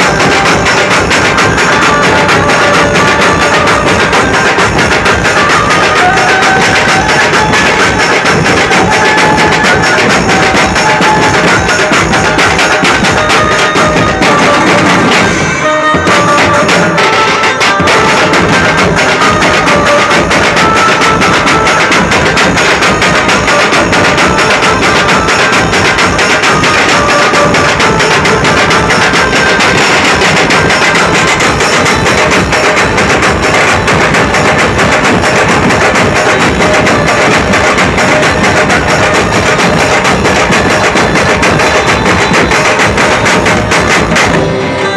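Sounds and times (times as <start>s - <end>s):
fast dense drumming: 0.0s - 44.6s.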